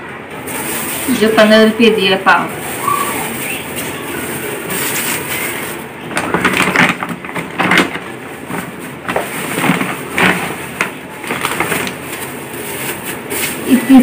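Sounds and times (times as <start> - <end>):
plastic bag crinkling: 0.4 - 14.0.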